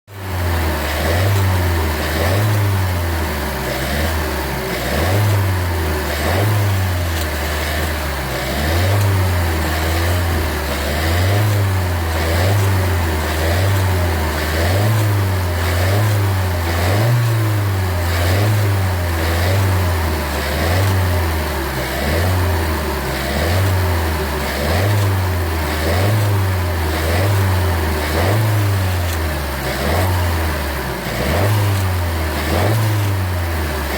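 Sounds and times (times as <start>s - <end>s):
car engine running: 0.0s - 33.9s
engine rattling noise: 0.0s - 33.9s.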